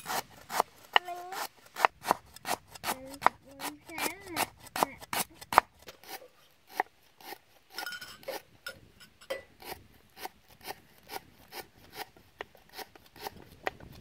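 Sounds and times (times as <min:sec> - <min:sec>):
knife slicing on wooden board: 0:00.0 - 0:08.4, 0:09.6 - 0:14.0.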